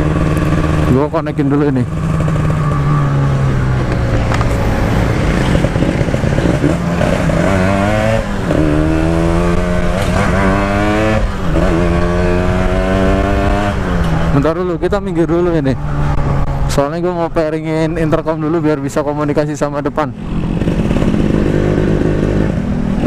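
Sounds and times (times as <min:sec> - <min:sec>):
two-stroke motorcycle engine revving: 0:00.0 - 0:16.8, 0:19.8 - 0:23.0.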